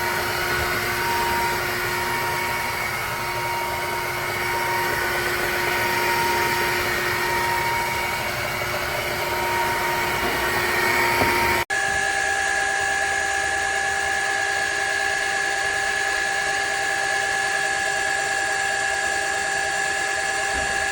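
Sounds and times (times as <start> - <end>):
vacuum mop motor whine: 0.0 - 20.9.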